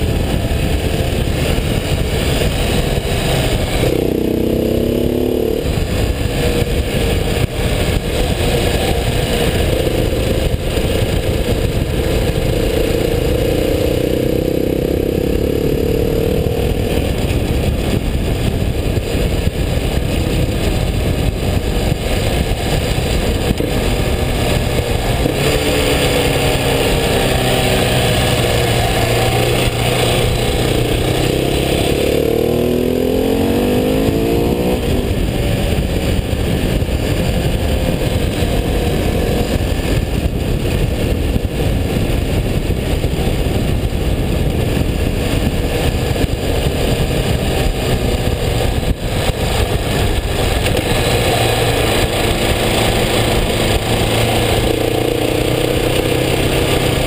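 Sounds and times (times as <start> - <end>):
motorcycle engine: 0.0 - 57.0
wind noise on microphone: 0.0 - 57.0.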